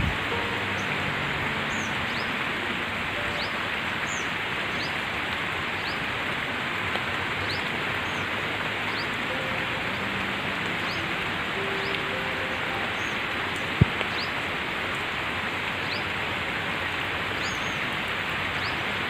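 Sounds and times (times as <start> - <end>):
rain on wet paving: 0.0 - 19.0.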